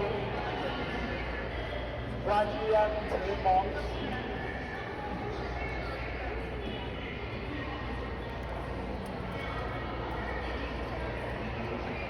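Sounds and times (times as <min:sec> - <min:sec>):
crowd murmur in a hall: 0:00.0 - 0:12.0.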